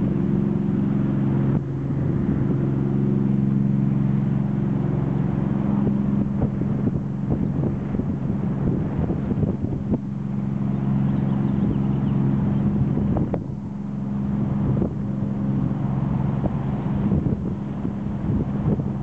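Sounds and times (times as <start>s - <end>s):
boat engine running: 0.0s - 19.0s
wind on microphone: 0.0s - 19.0s.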